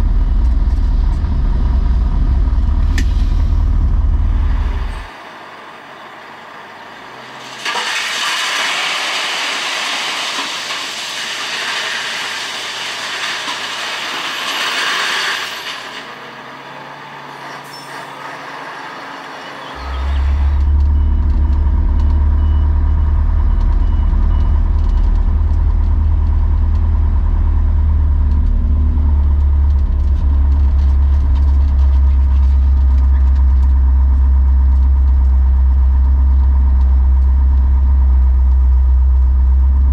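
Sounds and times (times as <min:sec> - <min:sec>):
truck engine droning: 0:00.0 - 0:07.9, 0:08.8 - 0:39.9.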